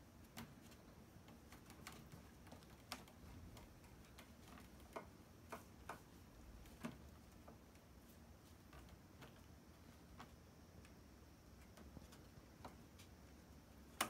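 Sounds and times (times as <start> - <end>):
cats tussling in a wire cage: 0.0 - 14.0.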